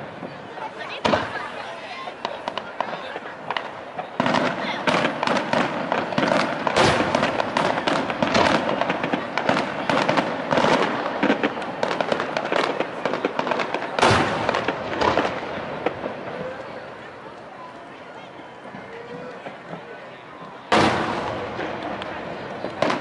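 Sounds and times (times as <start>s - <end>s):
firework booms: 0.0s - 17.1s, 20.7s - 23.0s
firework crackling: 0.0s - 23.0s.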